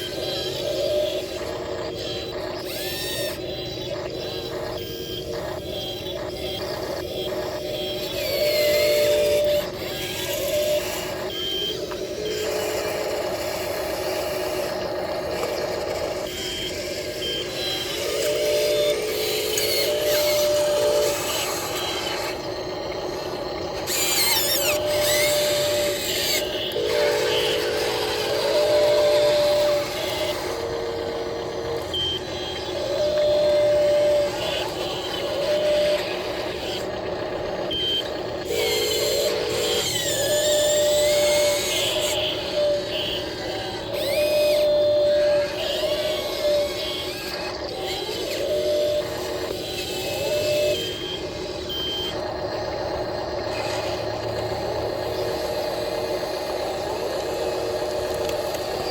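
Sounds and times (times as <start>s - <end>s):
small electric motors whining: 0.0s - 58.9s.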